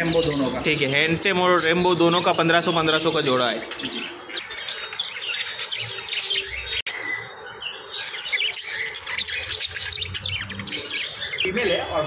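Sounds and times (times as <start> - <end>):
budgerigars chirping and squawking: 0.0 - 12.0.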